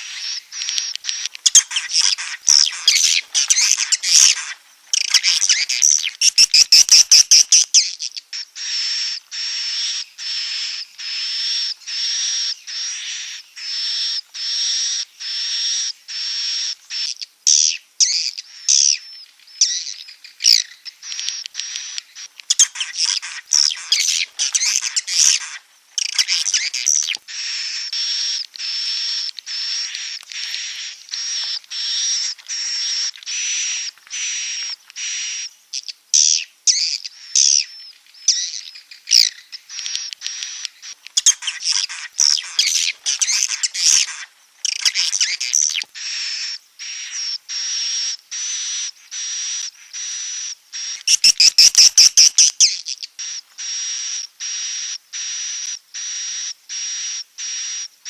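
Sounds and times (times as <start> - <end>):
high bird chirps: 0.0 - 54.3.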